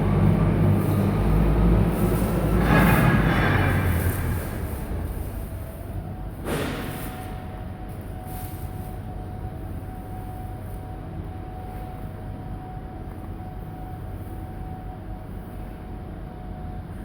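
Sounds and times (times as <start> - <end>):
machine hum with low rumble: 0.0 - 17.0.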